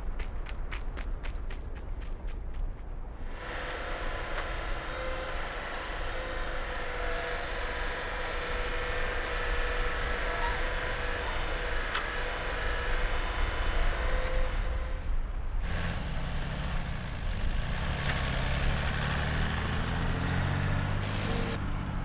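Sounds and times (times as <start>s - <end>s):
heavy vehicle engine running: 3.2s - 22.0s.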